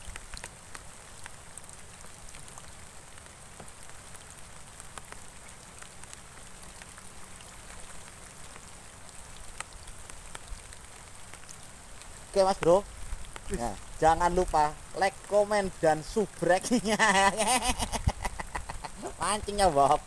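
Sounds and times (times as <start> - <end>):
rain falling on water: 0.0 - 20.0.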